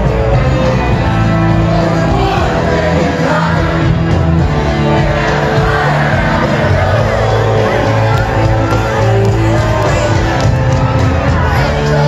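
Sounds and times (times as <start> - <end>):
audience shouting: 0.0 - 12.0
live rock band playing: 0.0 - 12.0
person singing: 0.0 - 12.0.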